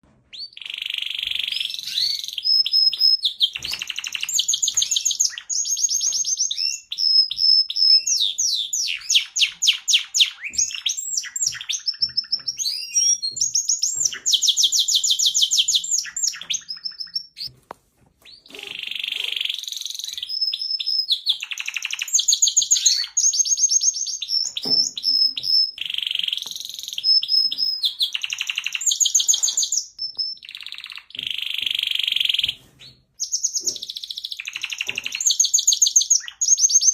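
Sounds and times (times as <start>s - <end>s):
canary singing trills: 0.3s - 17.6s, 18.2s - 36.9s.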